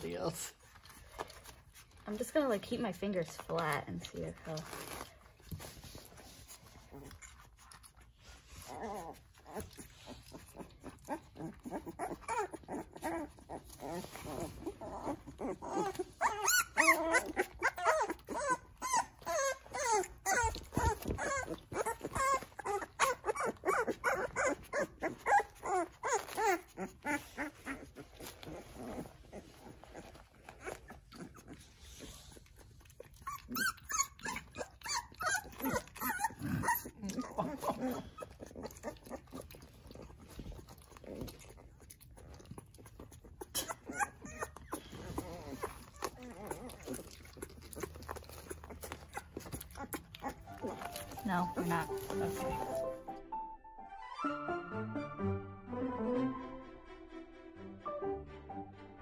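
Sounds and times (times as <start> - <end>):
puppies lapping milk: 0.0 - 53.1
puppies whimpering: 0.0 - 53.1.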